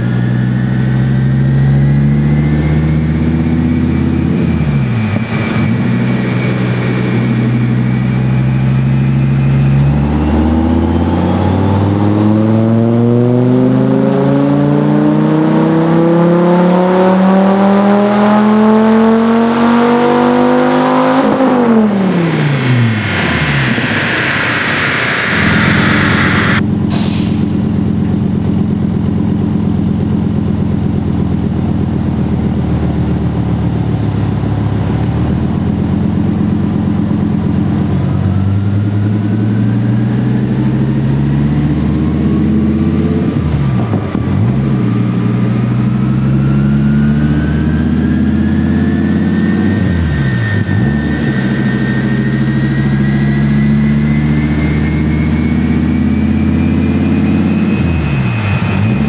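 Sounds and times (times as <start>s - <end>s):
car engine revving on a dyno: 0.0s - 27.2s, 30.0s - 59.0s.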